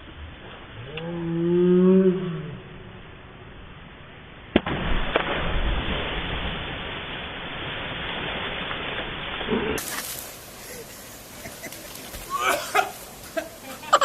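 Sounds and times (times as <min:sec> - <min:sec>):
rushing water with low rumble: 0:00.0 - 0:14.0.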